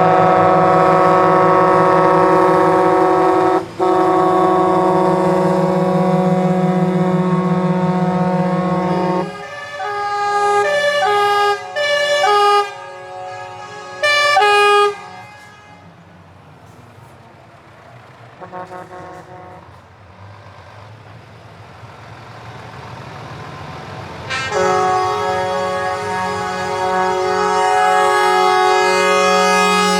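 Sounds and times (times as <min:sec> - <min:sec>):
truck air horns: 0:00.0 - 0:17.1, 0:18.2 - 0:19.9, 0:24.3 - 0:29.9
truck engines running: 0:00.0 - 0:29.9.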